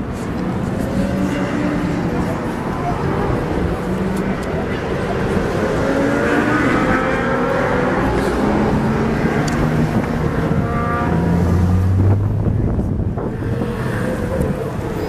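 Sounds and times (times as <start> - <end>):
car engine droning: 0.0 - 15.0
wind on microphone: 0.0 - 15.0.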